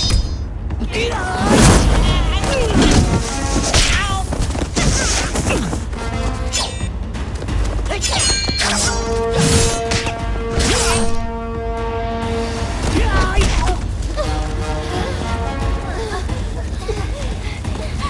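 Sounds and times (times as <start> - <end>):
film score music: 0.0 - 18.0.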